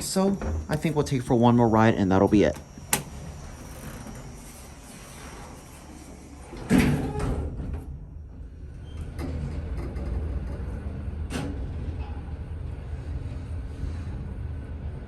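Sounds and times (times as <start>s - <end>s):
elevator car rumbling: 0.0s - 15.0s
elevator doors sliding shut: 2.4s - 14.6s.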